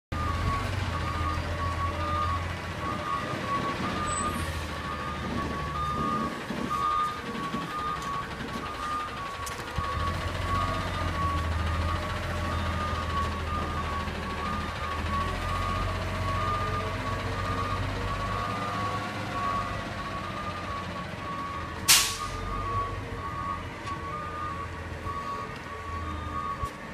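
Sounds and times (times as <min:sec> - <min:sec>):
garbage truck diesel engine: 0:00.1 - 0:26.9.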